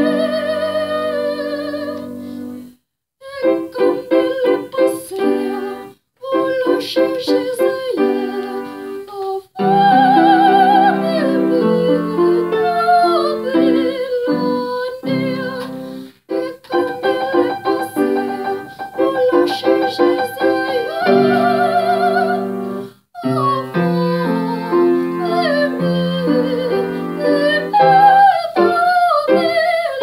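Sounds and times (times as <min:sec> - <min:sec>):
woman singing operatically: 0:00.0 - 0:02.2, 0:03.2 - 0:30.0
piano chords: 0:03.4 - 0:30.0.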